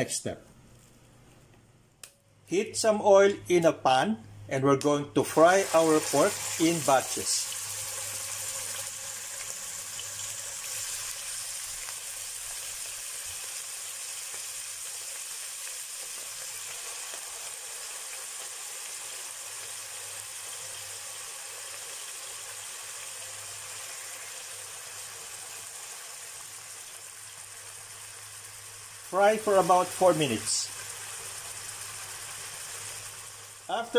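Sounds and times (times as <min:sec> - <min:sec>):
pork sizzling in hot oil: 0:05.3 - 0:33.9.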